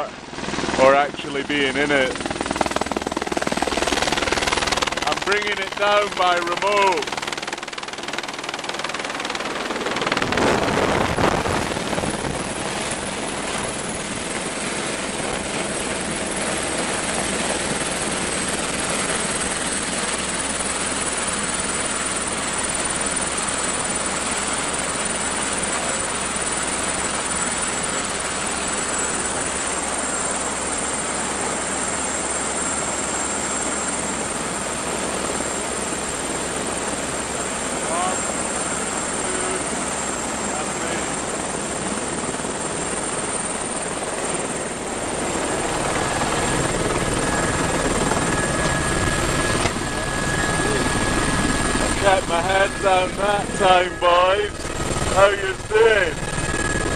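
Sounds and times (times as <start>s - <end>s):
helicopter rotor noise: 0.0s - 56.9s
high turbine whine: 0.0s - 56.9s.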